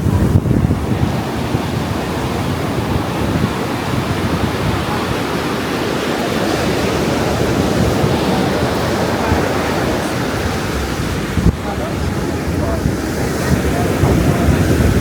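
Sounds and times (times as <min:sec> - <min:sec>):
ocean surf on sandy beach: 0:00.0 - 0:15.0
wind on microphone: 0:00.0 - 0:15.0.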